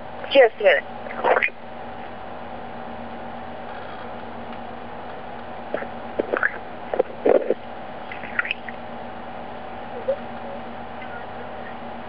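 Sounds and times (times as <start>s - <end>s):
telephone line hum: 0.0s - 12.0s.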